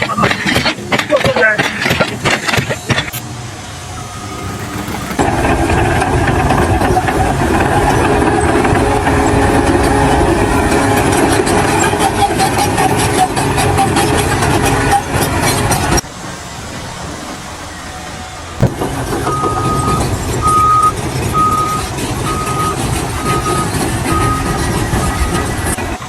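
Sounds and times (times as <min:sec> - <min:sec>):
engine running: 0:03.0 - 0:26.0.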